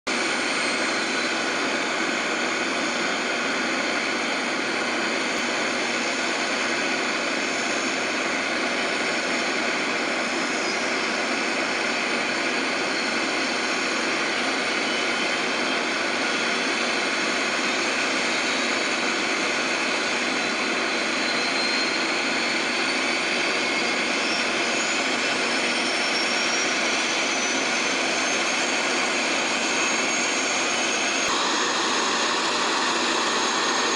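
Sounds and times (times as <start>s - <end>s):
helicopter turbine whine: 0.1s - 33.9s.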